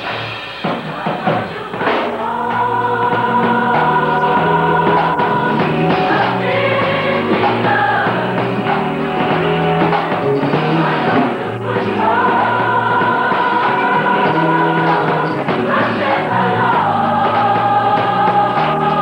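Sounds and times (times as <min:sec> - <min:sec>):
gospel choir singing: 0:00.0 - 0:19.0
band accompaniment with bass: 0:02.5 - 0:19.0.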